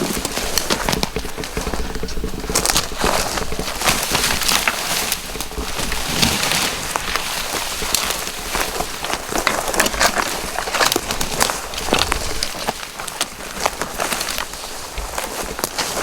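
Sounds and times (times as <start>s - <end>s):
dry twigs crackling and snapping: 0.0s - 16.0s.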